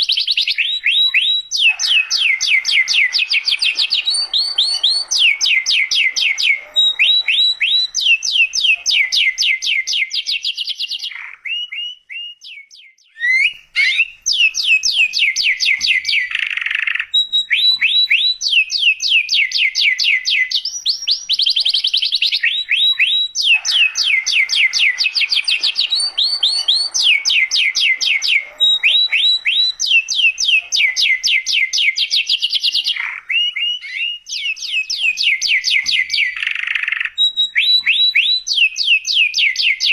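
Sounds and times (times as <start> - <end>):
canary trilling: 0.0 - 12.6, 13.2 - 39.9.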